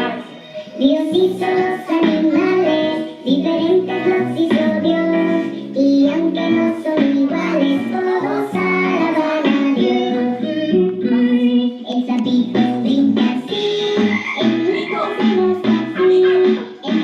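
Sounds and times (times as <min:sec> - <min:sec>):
children singing: 0:00.0 - 0:17.0
musical accompaniment: 0:00.0 - 0:17.0.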